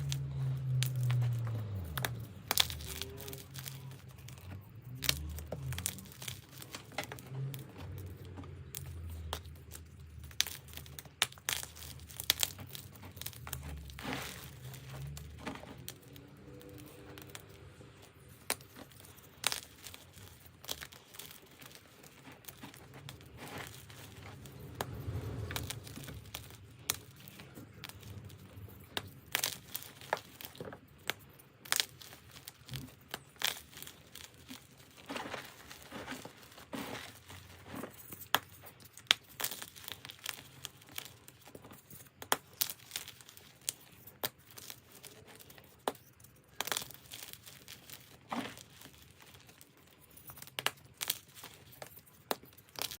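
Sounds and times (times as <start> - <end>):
chalk crunching: 0.0 - 53.0.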